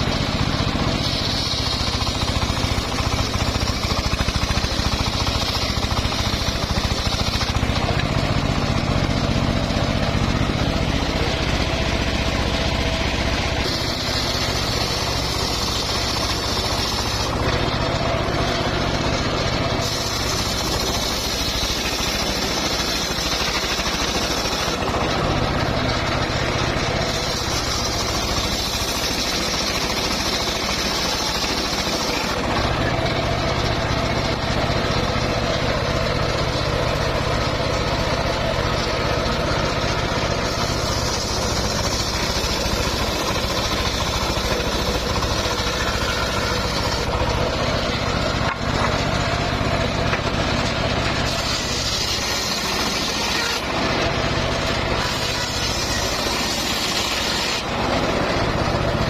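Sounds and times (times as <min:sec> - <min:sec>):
circular sawmill sawing wood: 0:00.0 - 0:59.0
higher machine sound: 0:00.0 - 0:59.0.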